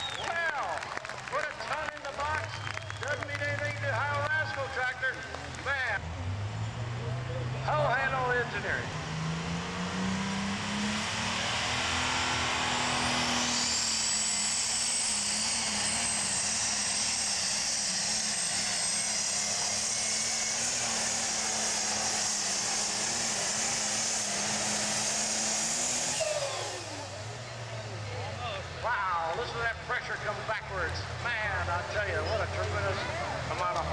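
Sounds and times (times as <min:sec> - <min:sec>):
diesel tractor engine under load: 0:00.0 - 0:33.9
turbocharger whine: 0:01.4 - 0:33.9.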